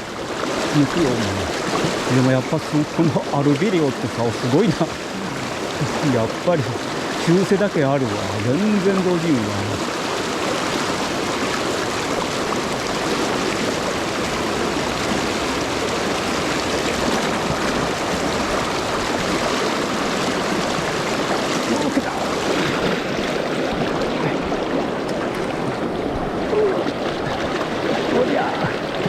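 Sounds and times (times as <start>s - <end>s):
river water rushing over rocks: 0.0s - 29.0s.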